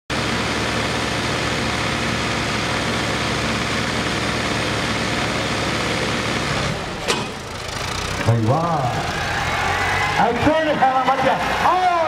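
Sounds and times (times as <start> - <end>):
diesel tractor engines running: 0.1 - 12.0.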